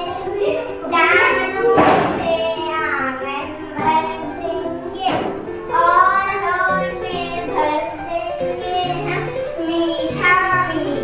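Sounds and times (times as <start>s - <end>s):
children reciting a rhyme: 0.0s - 11.0s.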